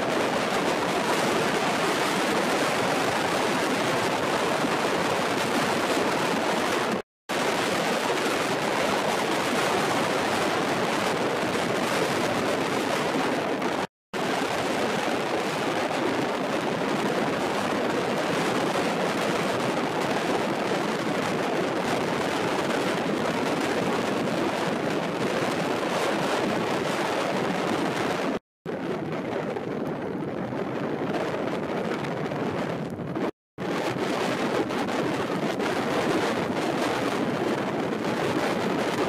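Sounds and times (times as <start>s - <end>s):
wind rushing over water: 0.0s - 39.0s.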